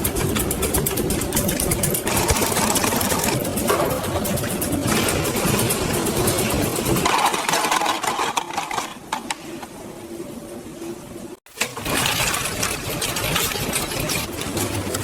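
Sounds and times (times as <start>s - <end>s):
factory machinery clattering: 0.0s - 9.8s, 11.5s - 15.0s.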